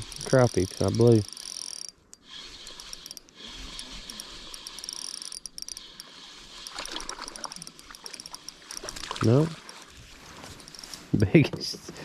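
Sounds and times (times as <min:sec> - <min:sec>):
fishing reel clicking: 0:00.0 - 0:09.9, 0:10.5 - 0:11.1
soft watery sounds: 0:00.0 - 0:11.2.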